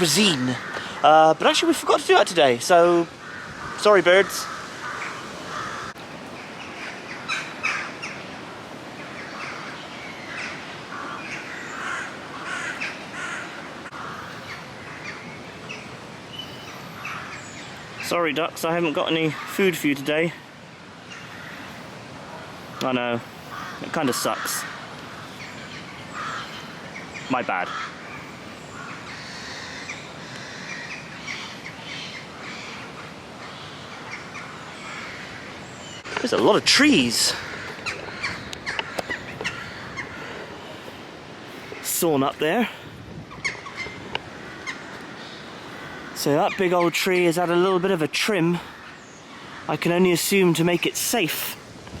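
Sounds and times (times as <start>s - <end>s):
ducks quacking: 0.0s - 8.3s, 9.1s - 15.9s, 21.1s - 51.3s
birds chirping: 0.0s - 52.0s
outdoor background hiss: 0.0s - 52.0s.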